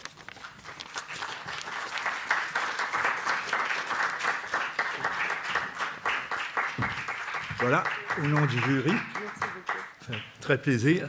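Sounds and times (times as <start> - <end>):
audience applauding: 0.6 - 10.9.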